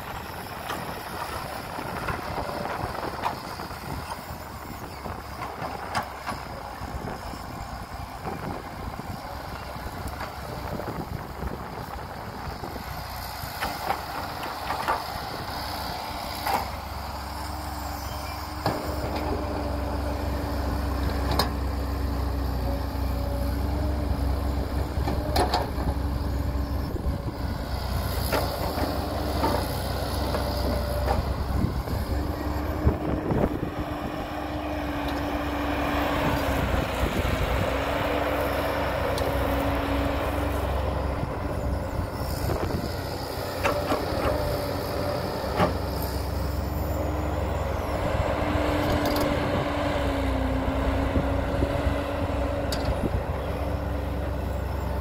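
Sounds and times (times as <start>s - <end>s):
diesel machinery running: 0.0s - 55.0s.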